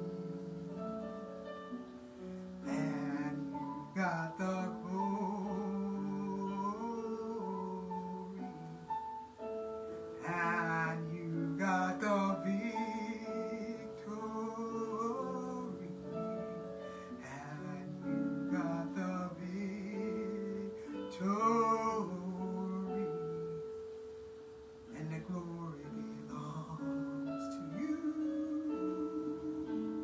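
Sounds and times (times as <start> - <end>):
instrumental accompaniment: 0.0 - 30.0.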